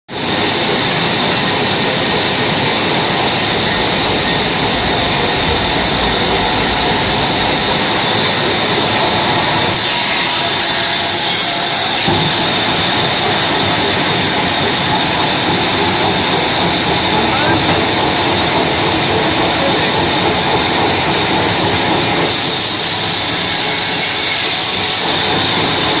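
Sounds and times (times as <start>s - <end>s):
band saw cutting log: 0.2s - 26.0s.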